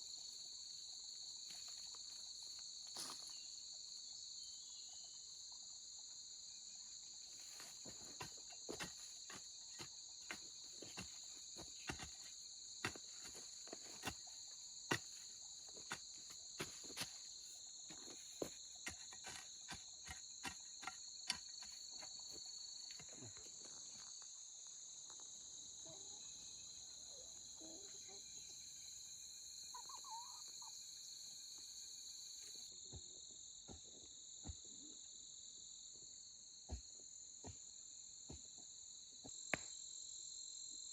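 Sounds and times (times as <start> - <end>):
high insect chorus: 0.0 - 40.9.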